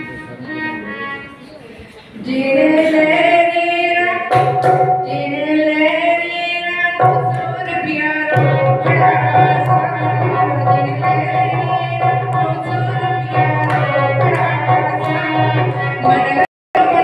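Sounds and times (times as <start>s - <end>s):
woman singing into microphone: 2.1s - 17.0s.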